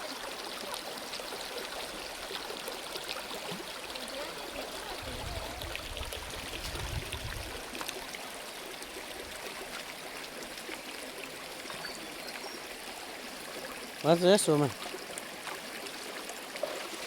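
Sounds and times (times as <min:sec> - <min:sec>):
small water splashes: 0:00.0 - 0:17.0
stream babbling over rocks: 0:00.0 - 0:17.0.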